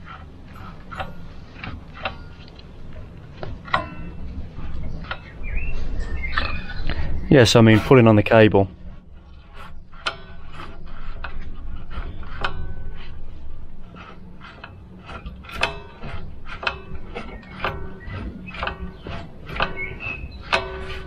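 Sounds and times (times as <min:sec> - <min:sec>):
brake shoes clacking: 0:00.0 - 0:21.0.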